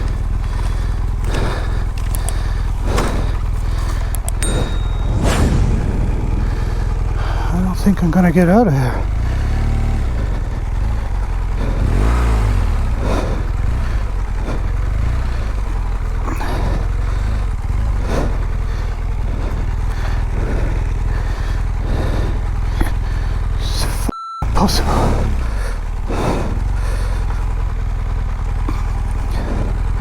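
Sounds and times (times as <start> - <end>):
motorcycle engine revving: 0.0 - 23.9, 24.8 - 30.0.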